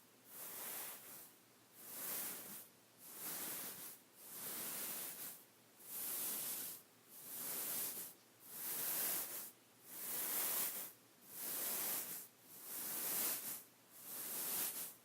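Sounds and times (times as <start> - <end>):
beaded pillow swishing: 0.4 - 15.0.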